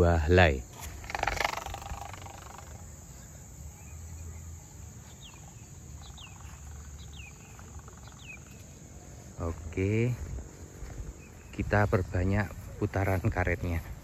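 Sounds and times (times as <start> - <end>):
low outdoor background: 0.0 - 14.0
bird chirps: 0.8 - 14.0.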